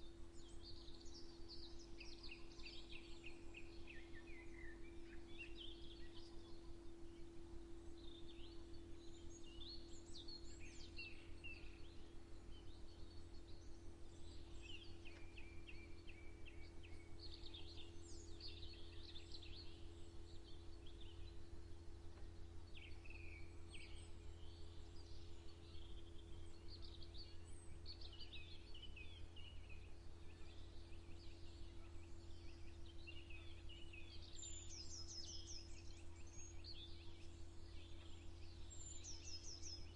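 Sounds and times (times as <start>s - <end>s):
faint low hum: 0.0s - 39.9s
songbirds chirping and trilling: 0.0s - 39.9s.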